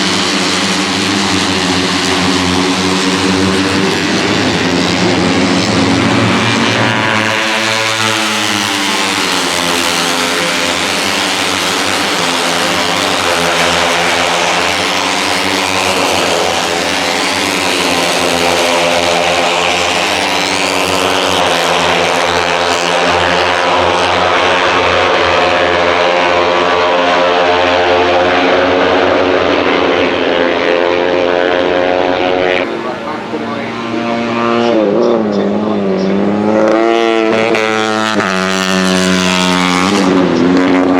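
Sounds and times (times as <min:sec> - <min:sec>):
race motorcycles revving: 0:00.0 - 0:40.9.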